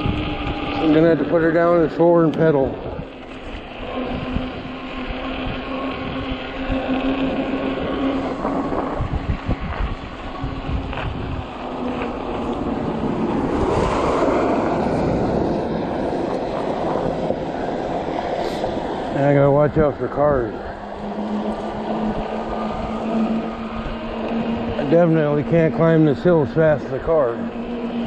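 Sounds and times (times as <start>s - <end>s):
electric bike motor humming: 0.0s - 28.0s
wind on microphone: 0.0s - 28.0s.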